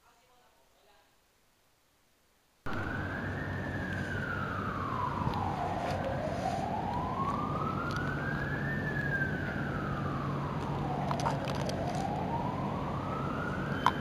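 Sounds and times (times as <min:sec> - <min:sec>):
wailing police siren: 0:02.7 - 0:14.0.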